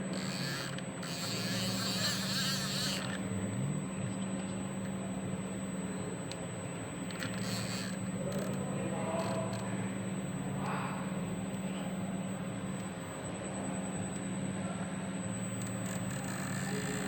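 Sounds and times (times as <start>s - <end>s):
machine humming: 0.0s - 17.0s
thin high whine: 0.0s - 17.0s.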